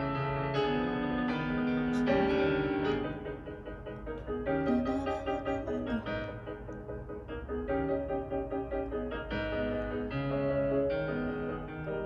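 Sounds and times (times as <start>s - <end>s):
solo piano music: 0.0s - 12.0s.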